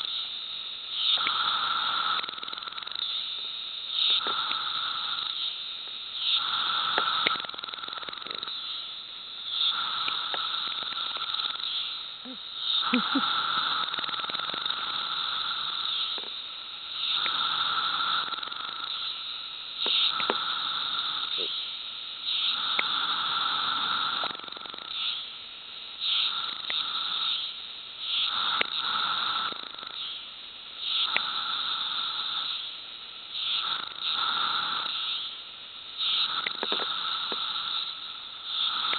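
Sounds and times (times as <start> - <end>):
chorus of cicadas: 0.0 - 38.9
cicadas buzzing: 0.0 - 38.9.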